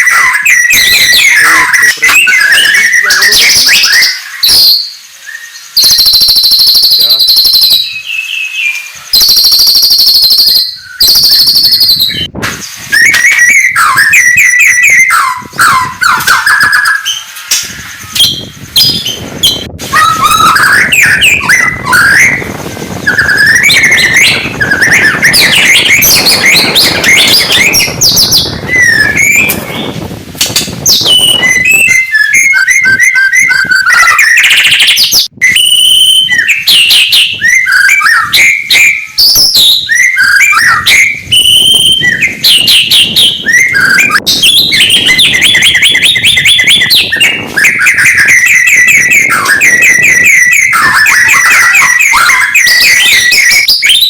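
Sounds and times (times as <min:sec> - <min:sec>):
bird singing whistles and trills: 0:00.0 - 0:54.0.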